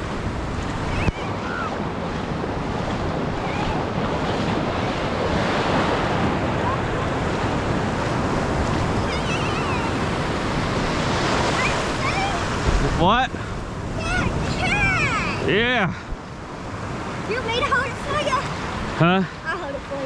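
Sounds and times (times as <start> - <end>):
wind buffeting microphone: 0.0 - 19.0
ocean surf breaking: 0.0 - 20.0.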